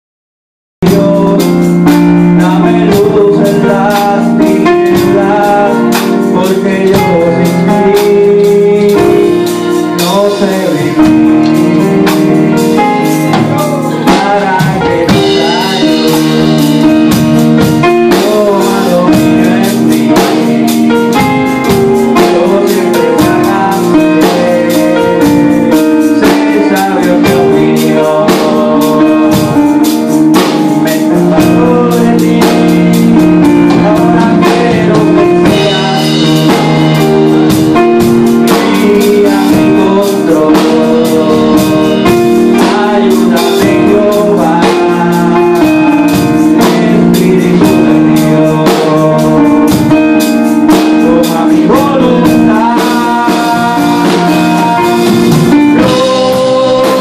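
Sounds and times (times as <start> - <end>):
drum kit beat: 0.8 - 57.0
electric keyboard: 0.8 - 57.0
man singing into microphone: 0.8 - 57.0.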